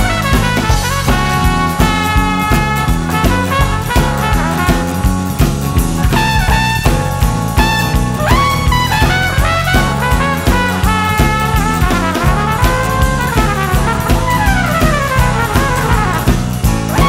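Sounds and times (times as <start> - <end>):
swing jazz with brass and drums: 0.0 - 17.0.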